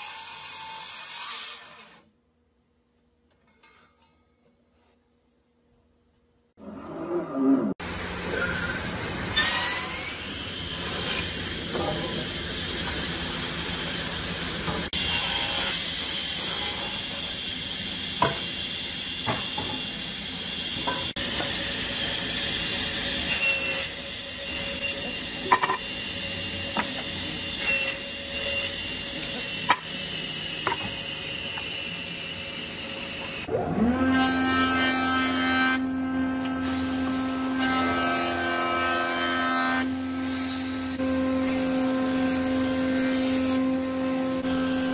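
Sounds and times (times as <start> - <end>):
table saw cutting wood: 0.0 - 2.0, 7.7 - 44.9.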